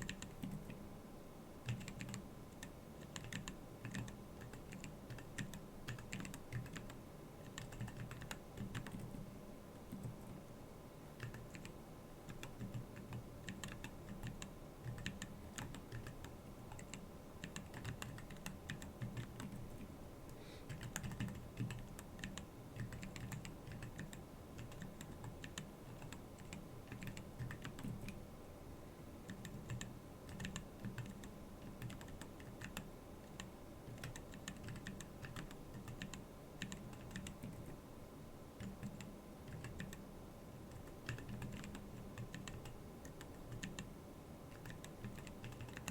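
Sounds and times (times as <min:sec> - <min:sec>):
mechanical keyboard typing: 0:00.0 - 0:00.8, 0:01.6 - 0:09.2, 0:11.2 - 0:19.9, 0:20.7 - 0:28.2, 0:29.3 - 0:37.8, 0:38.6 - 0:40.0, 0:40.6 - 0:43.9, 0:44.5 - 0:45.9.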